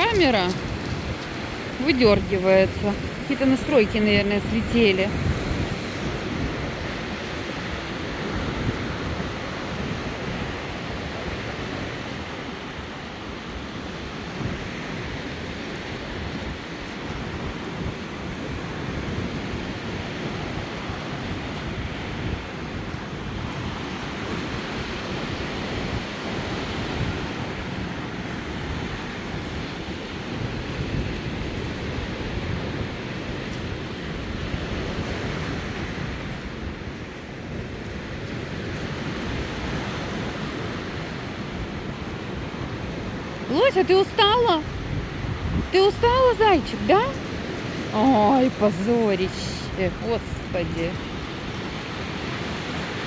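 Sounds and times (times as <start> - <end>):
stormy surf on shore: 0.0 - 53.0
wind rumbling on microphone: 0.0 - 53.0.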